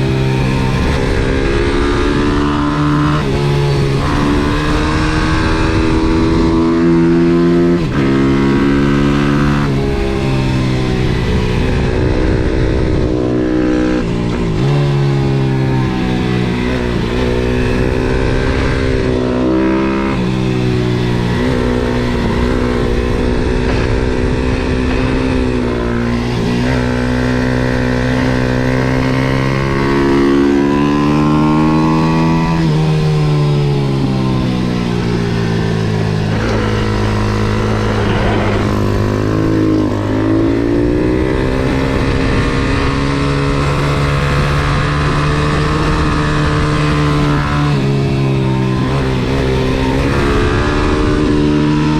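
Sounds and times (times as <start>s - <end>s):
motorbike engine revving: 0.0s - 51.9s
wind rumble on microphone: 0.0s - 51.9s.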